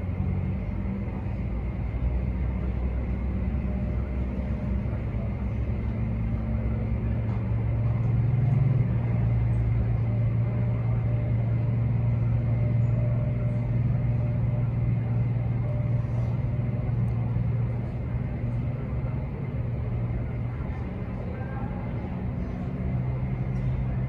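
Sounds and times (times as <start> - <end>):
tug engine droning under load: 0.0 - 24.0.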